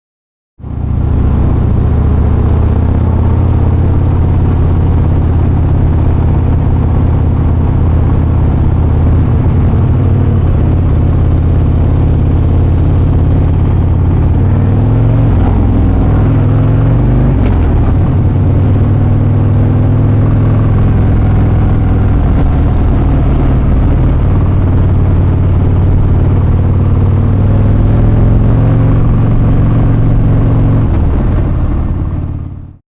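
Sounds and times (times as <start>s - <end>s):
motorcycle engine running: 0.6s - 32.8s.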